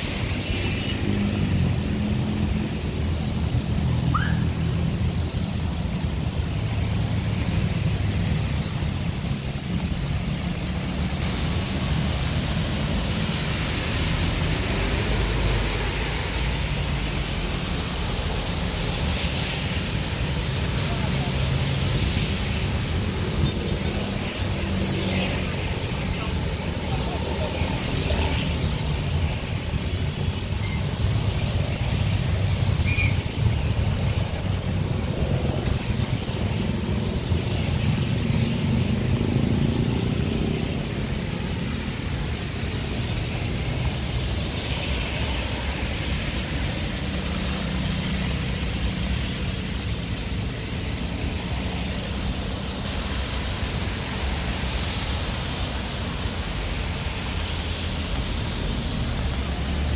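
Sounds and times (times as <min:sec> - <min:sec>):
traffic engines rumbling: 0:00.0 - 0:59.9
tyres hissing on wet road: 0:00.0 - 0:59.9.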